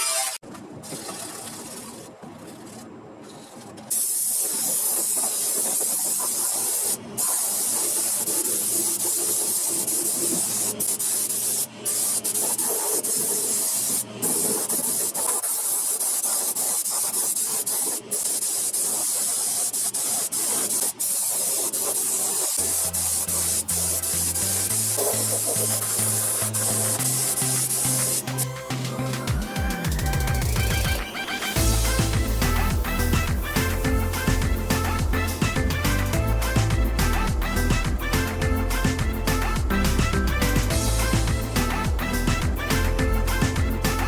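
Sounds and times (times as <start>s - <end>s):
spraying hiss: 3.9s - 44.0s.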